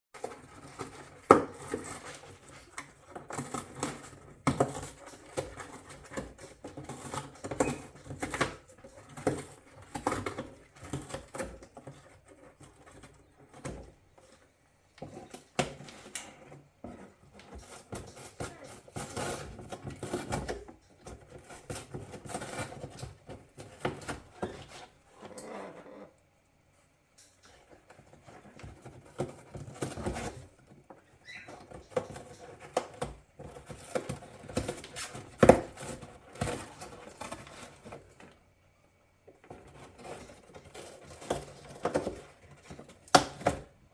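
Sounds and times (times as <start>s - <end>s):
parrot chewing cardboard: 0.2s - 26.2s, 27.4s - 38.4s, 39.2s - 43.9s.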